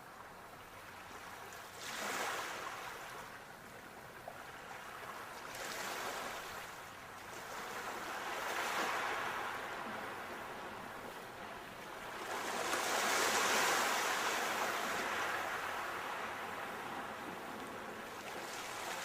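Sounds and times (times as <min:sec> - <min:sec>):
sea waves breaking on shore: 0:00.7 - 0:03.5, 0:04.2 - 0:19.0.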